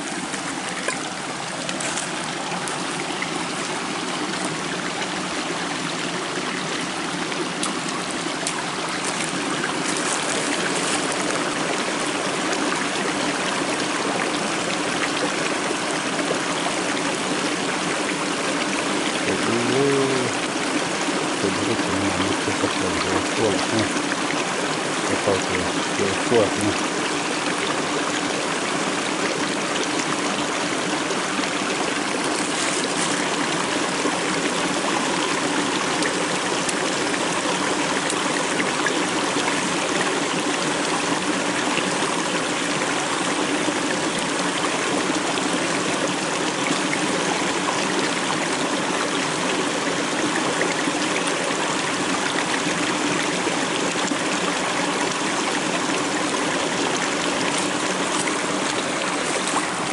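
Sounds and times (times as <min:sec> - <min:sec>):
stream splashing over rocks: 0:00.0 - 0:59.9.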